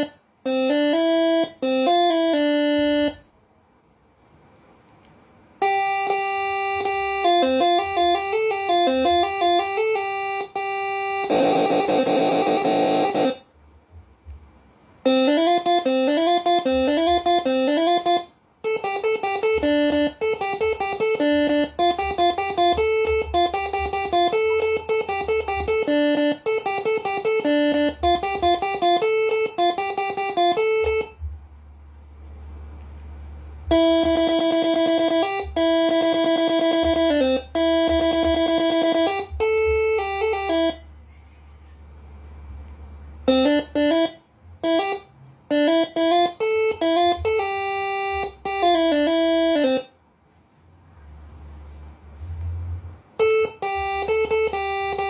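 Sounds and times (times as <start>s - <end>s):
musical air horn playing tunes: 0.0s - 3.3s, 5.6s - 13.5s, 15.0s - 31.4s, 33.1s - 41.7s, 42.5s - 50.0s, 51.1s - 55.0s
steady low hum: 0.0s - 55.0s.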